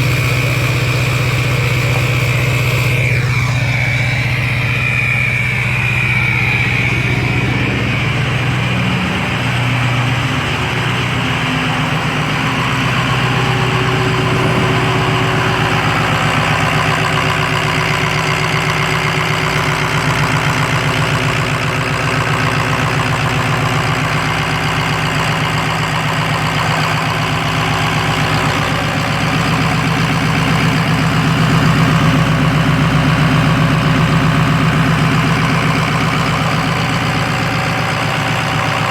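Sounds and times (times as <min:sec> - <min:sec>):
diesel engine idling: 0:00.0 - 0:38.9
high turbo whine: 0:00.0 - 0:38.9.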